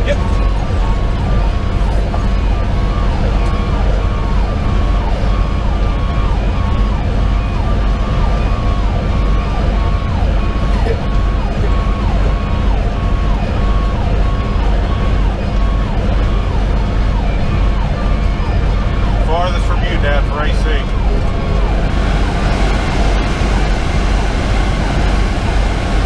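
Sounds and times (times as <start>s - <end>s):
diesel engine rumble: 0.0s - 26.0s
electronic siren: 0.0s - 26.0s
road noise: 0.0s - 26.0s.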